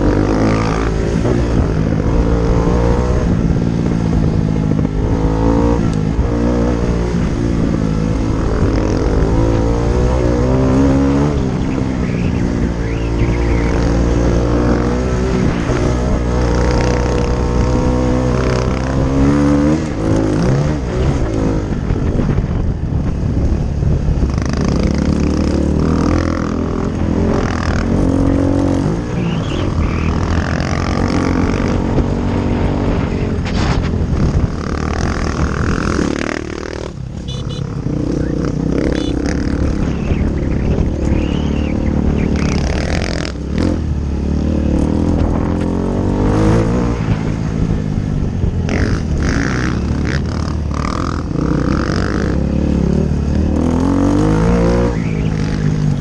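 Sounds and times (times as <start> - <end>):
dirt bike engine revving: 0.0 - 22.4, 24.2 - 47.7, 48.5 - 56.0.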